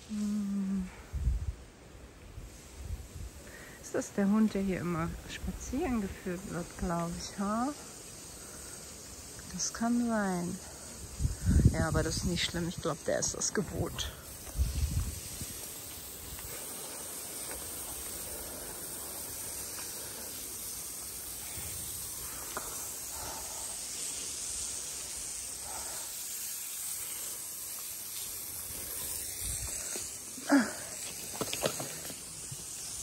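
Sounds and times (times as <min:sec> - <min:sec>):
light rain falling: 0:00.0 - 0:33.0.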